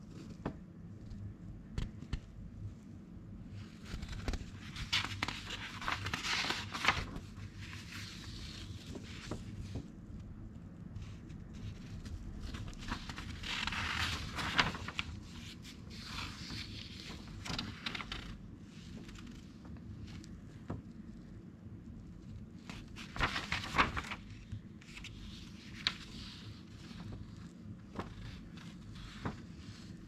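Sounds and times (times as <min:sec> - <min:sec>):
paper pages rustling: 0:03.6 - 0:21.3, 0:22.2 - 0:30.0.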